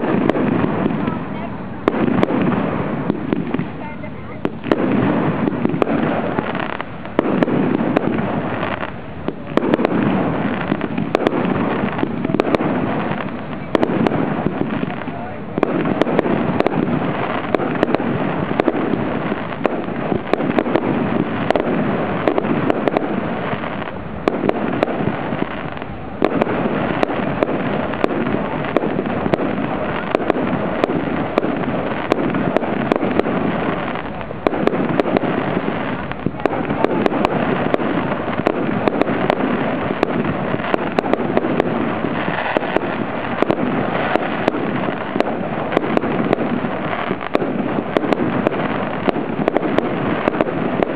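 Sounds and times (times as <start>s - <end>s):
fireworks bursting: 0.0s - 50.9s.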